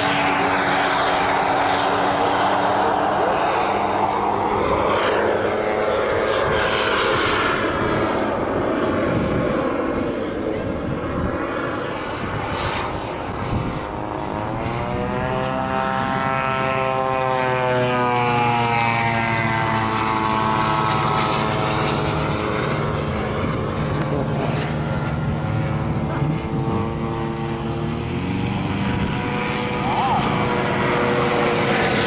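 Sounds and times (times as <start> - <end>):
model airplane engine in flight: 0.0 - 32.0.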